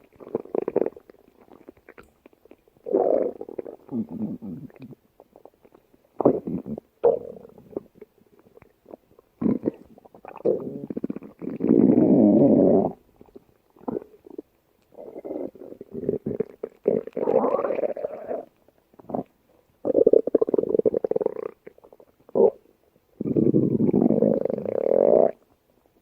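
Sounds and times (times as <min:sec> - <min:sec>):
stomach growling: 0:00.0 - 0:22.6, 0:23.2 - 0:25.4.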